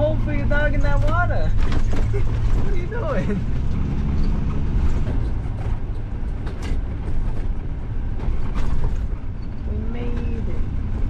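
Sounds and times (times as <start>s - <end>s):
engine and road rumble: 0.0s - 11.0s
short knocks or creaks: 0.9s - 10.4s.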